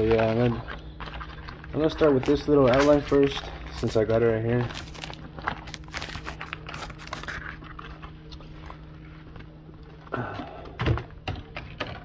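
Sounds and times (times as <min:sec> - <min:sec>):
bubble wrap rustling and crinkling: 0:00.0 - 0:10.0
steady low hum: 0:00.0 - 0:12.0.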